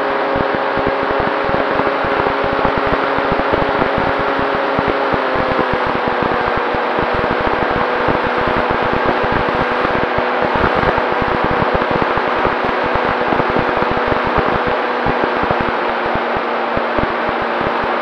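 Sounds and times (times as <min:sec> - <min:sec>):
electric motor whining: 0:00.0 - 0:18.0
wind buffeting on microphone: 0:00.1 - 0:18.0.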